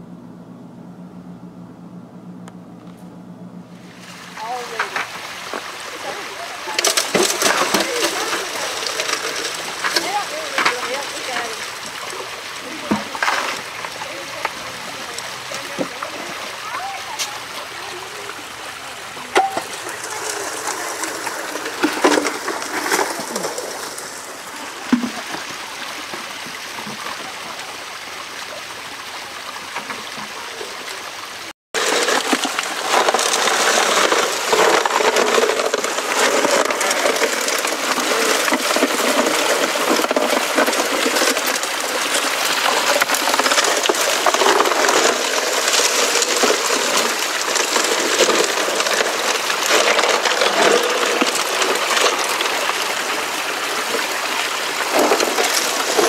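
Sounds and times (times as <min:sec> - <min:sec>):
water rushing down sluice box: 0:03.8 - 0:56.0.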